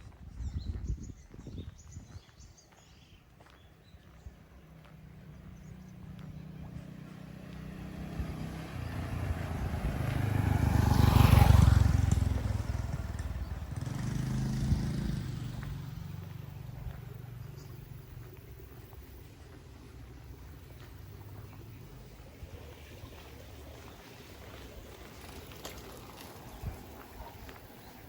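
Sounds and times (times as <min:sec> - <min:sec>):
vehicles passing by: 0:00.1 - 0:28.0.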